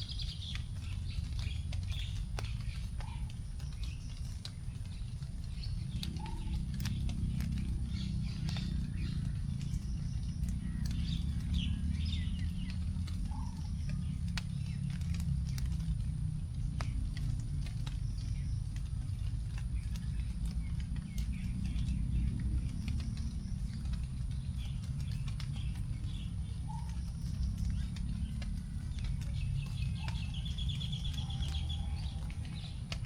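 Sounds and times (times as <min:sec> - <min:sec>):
birds calling: 0:00.0 - 0:33.0
raindrops dripping onto leaves: 0:00.0 - 0:33.0
steady low rumble: 0:00.0 - 0:33.0.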